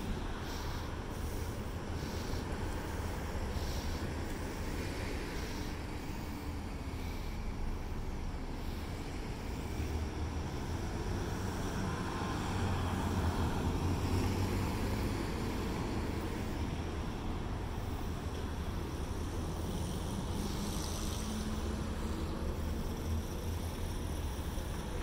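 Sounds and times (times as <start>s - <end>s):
car passing: 0.0s - 25.0s
low rumble of street traffic: 0.0s - 25.0s.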